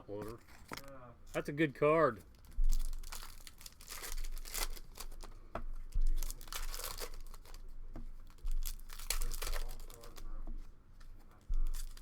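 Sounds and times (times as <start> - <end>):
plastic wrappers crinkling and tearing: 0.2 - 1.4, 2.1 - 10.4, 11.4 - 12.0.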